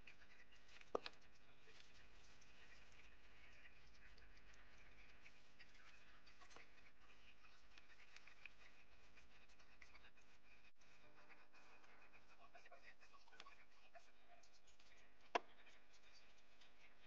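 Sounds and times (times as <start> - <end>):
faint scratching and clicks: 0.0 - 17.0.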